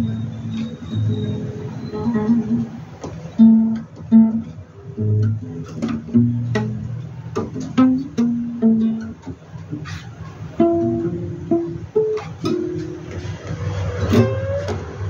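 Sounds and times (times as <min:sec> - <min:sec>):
guitar picked melody: 0:00.0 - 0:15.0
low guitar notes: 0:00.0 - 0:15.0.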